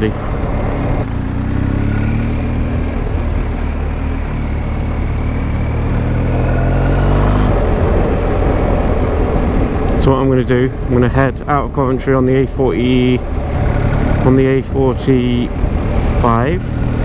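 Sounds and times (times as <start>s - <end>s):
motorcycle engine running: 0.0s - 17.0s
steady rushing noise: 0.0s - 17.0s.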